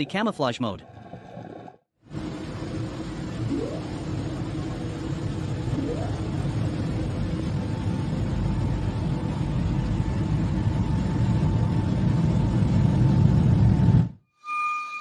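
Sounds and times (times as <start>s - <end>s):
low rumble: 0.8s - 14.2s.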